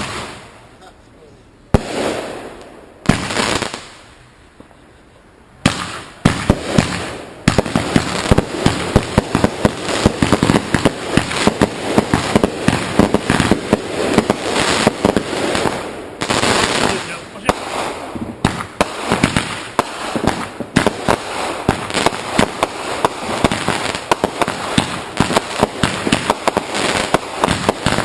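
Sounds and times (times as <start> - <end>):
firework bangs: 0.0 - 0.7, 1.7 - 4.8, 5.6 - 28.0.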